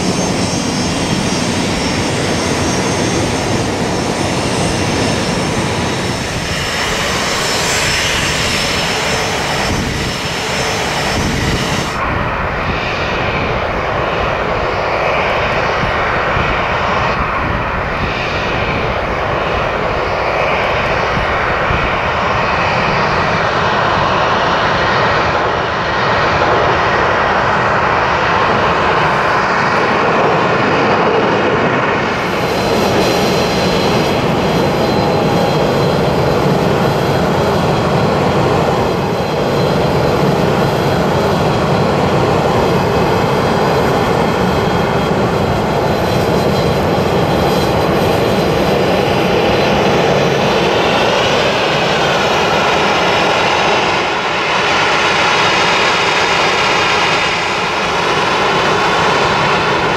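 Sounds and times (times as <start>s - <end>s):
jet engine rush: 0.0s - 59.9s.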